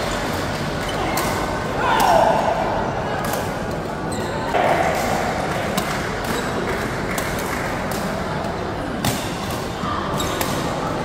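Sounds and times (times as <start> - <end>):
indoor hall background noise: 0.0 - 11.0.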